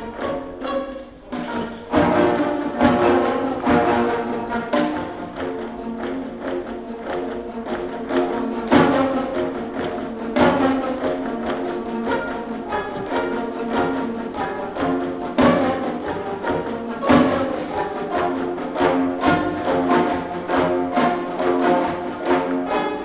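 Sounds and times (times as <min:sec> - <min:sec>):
hand drum: 0:00.0 - 0:23.0
plucked zither ensemble: 0:00.0 - 0:23.0.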